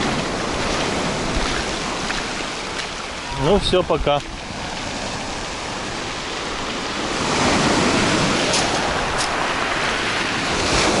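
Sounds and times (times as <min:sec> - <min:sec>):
surf on a pebble beach: 0:00.0 - 0:11.0.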